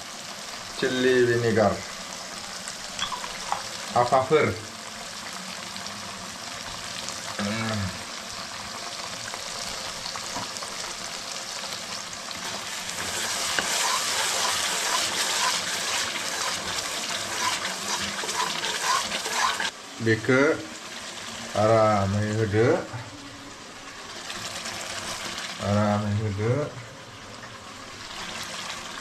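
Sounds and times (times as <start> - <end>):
curry sizzling in a pan: 0.0 - 29.0.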